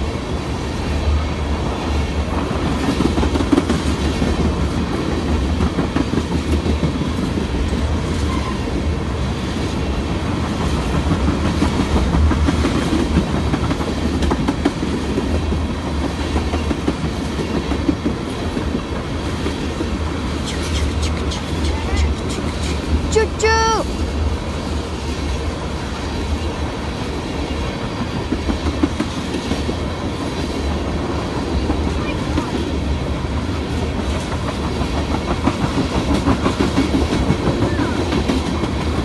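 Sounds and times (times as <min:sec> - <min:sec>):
freight train rumbling: 0:00.0 - 0:39.0.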